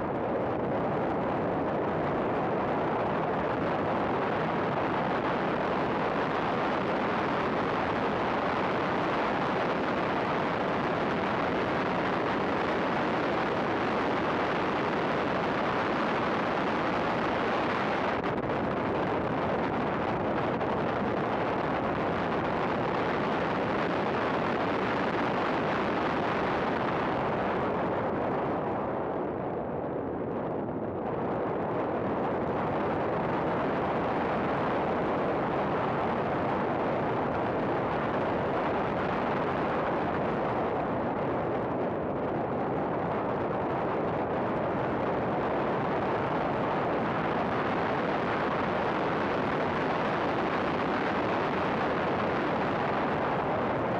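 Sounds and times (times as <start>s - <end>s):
wind noise: 0.0s - 53.9s.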